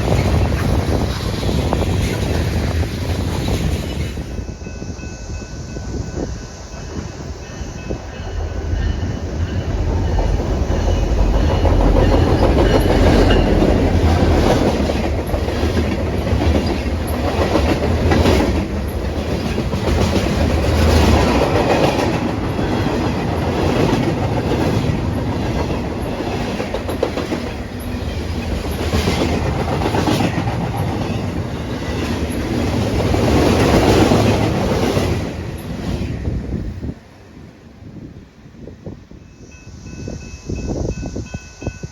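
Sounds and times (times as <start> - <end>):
train wheels clickety-clack: 0.0 - 4.4, 5.8 - 36.9.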